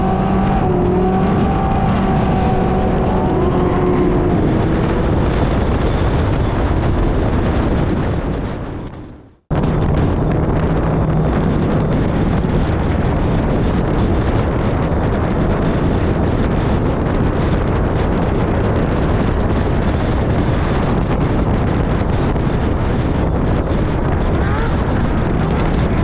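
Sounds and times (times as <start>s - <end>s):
road noise: 0.0s - 26.0s
truck engine: 0.0s - 26.0s
wind buffeting microphone: 0.0s - 26.0s.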